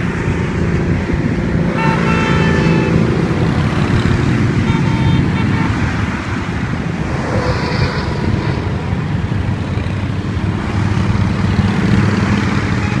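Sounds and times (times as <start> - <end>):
highway traffic rumble: 0.0 - 13.0
motorcycles passing: 0.0 - 13.0.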